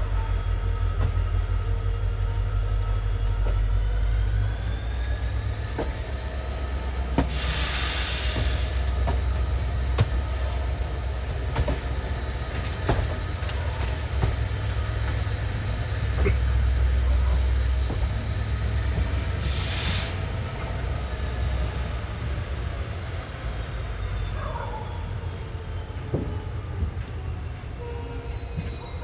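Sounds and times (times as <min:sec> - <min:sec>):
diesel locomotive hum: 0:00.0 - 0:29.0.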